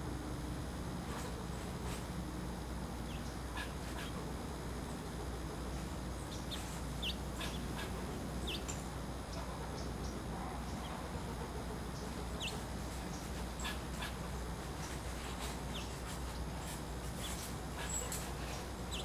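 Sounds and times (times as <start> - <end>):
outdoor background hiss: 0.0 - 19.0
songbirds chirping: 1.1 - 19.0.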